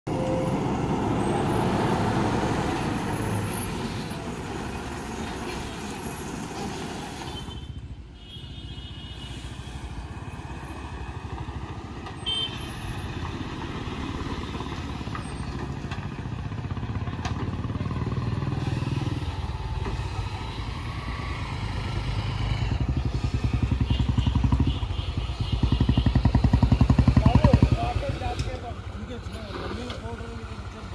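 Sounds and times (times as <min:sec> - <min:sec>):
heavy lorry diesel engines: 0:00.1 - 0:30.9.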